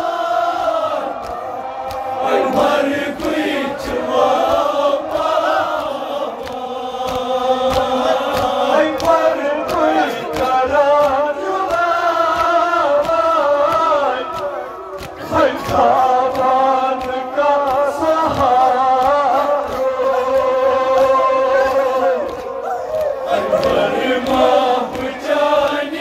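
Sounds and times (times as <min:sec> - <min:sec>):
crowd of men singing along: 0:00.0 - 0:26.0
men chanting a lament: 0:00.0 - 0:26.0
hands slapping chests: 0:00.6 - 0:26.0.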